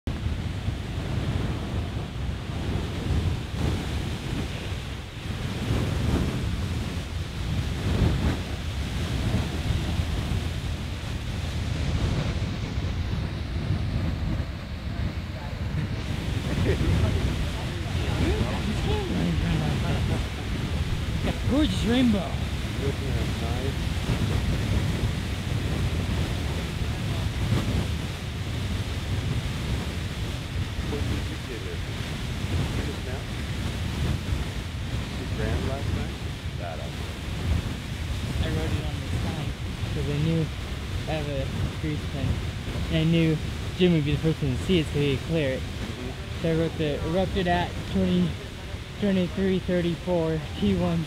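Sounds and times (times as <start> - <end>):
wind on microphone: 0.0 - 51.0
geyser water rushing hiss: 0.1 - 51.0.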